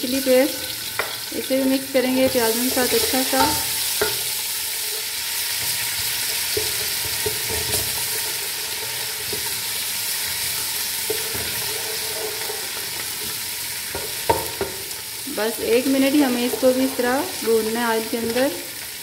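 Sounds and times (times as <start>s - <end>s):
onions sizzling in hot oil: 0.0s - 19.0s
wooden spoon scraping a pan: 2.1s - 14.8s, 15.6s - 18.6s.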